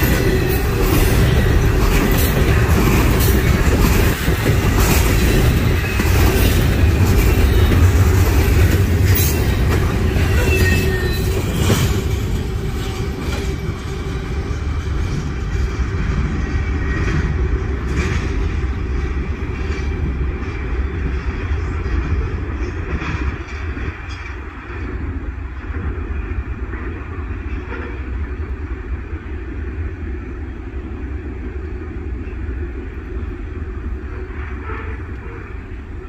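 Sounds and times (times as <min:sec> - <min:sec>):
freight train rumbling past: 0:00.0 - 0:36.0.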